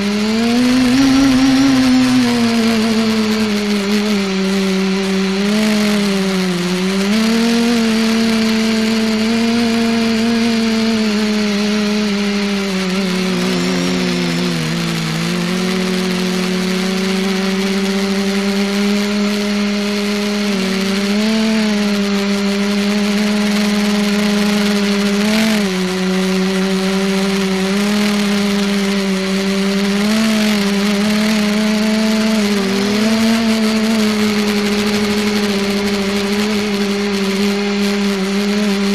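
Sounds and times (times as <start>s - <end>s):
multicopter propellers buzzing: 0.0s - 38.9s.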